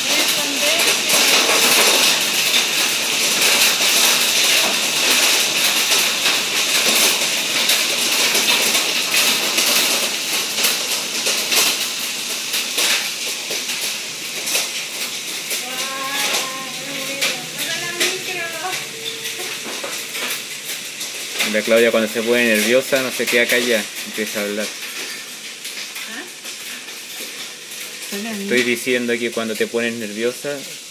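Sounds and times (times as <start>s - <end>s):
hailstones clicking: 0.0s - 30.9s
heavy rain hissing: 0.0s - 30.9s.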